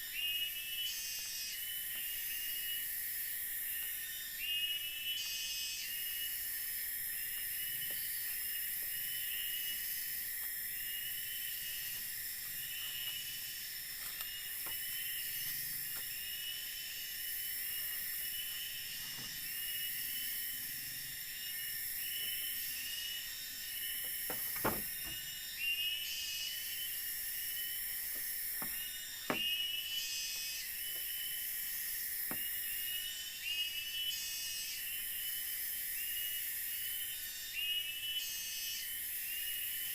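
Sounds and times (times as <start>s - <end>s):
insect chorus shrill hiss: 0.0s - 39.9s.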